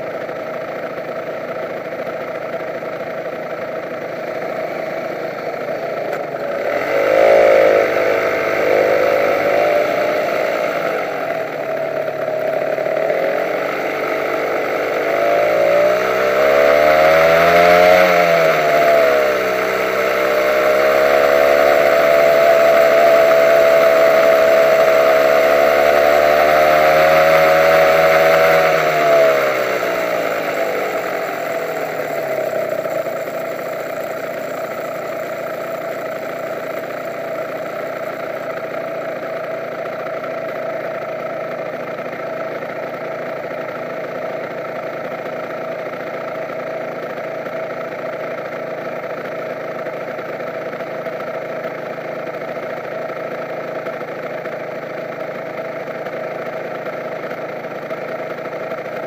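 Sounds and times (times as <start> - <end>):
motorcycle engine pulling away: 0.0 - 59.0.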